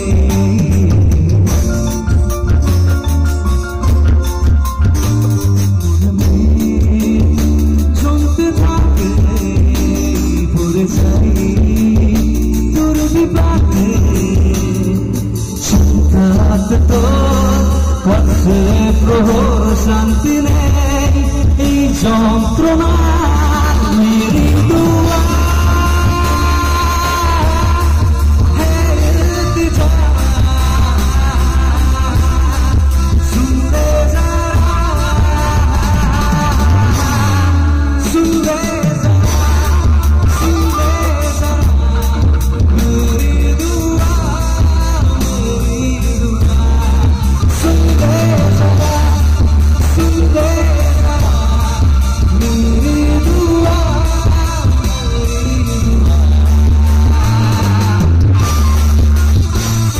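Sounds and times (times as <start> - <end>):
man singing: 0.0 - 2.7, 5.7 - 59.9
drum: 0.0 - 59.9
electric guitar: 0.0 - 59.9
heavy steady bass: 0.0 - 59.9
keyboard: 0.0 - 59.9
live band playing: 0.0 - 59.9.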